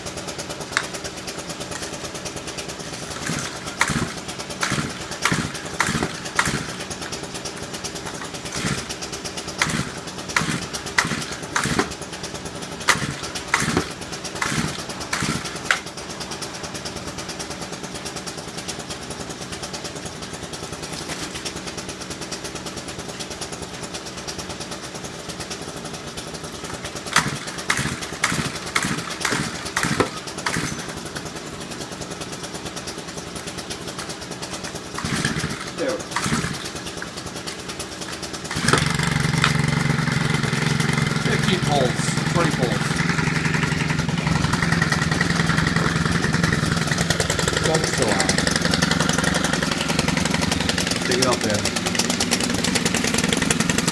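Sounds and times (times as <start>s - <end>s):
small two-stroke engine running: 0.0s - 53.9s.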